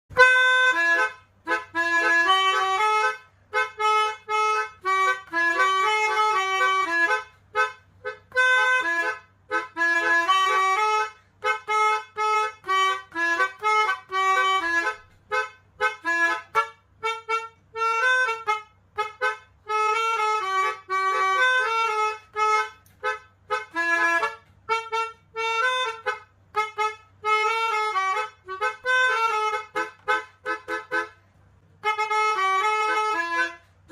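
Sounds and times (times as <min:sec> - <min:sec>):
melodica playing chords: 0:00.1 - 0:33.9.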